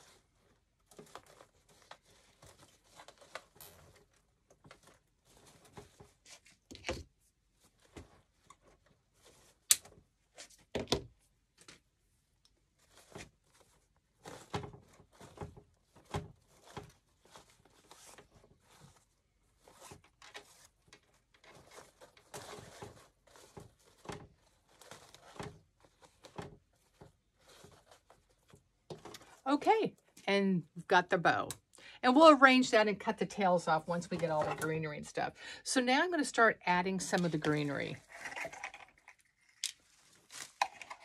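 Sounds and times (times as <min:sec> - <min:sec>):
ribbon rustling and crinkling: 0:00.0 - 0:10.8, 0:11.4 - 0:30.2, 0:37.0 - 0:41.0.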